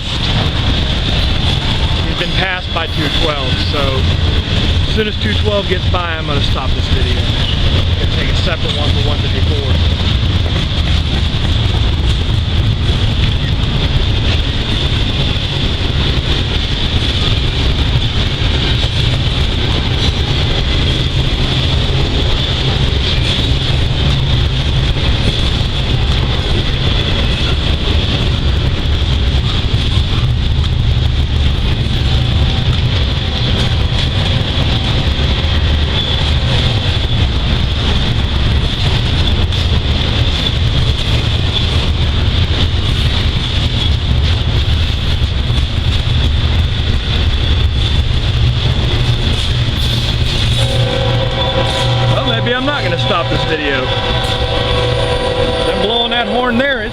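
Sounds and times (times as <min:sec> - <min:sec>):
train cars rumbling on rails: 0:00.0 - 0:56.9.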